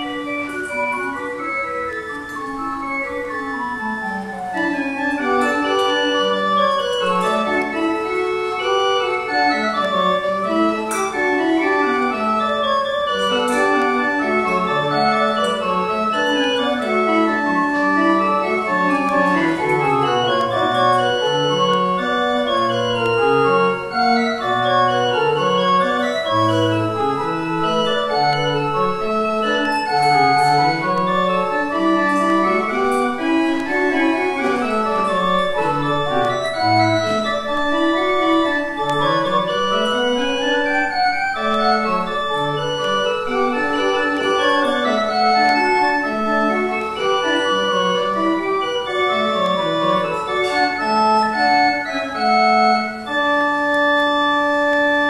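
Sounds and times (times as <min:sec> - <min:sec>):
church organ playing: 0:00.0 - 0:55.0.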